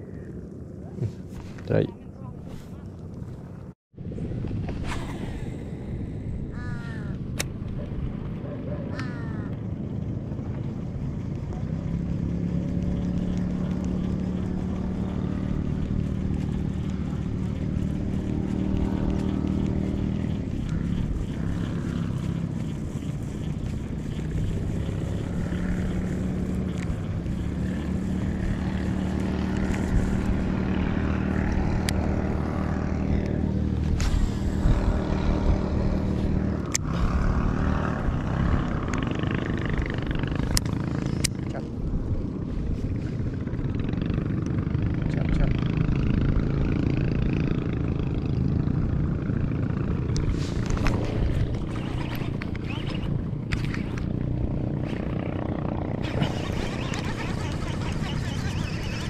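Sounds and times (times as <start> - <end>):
boat engine running: 4.6 - 59.0.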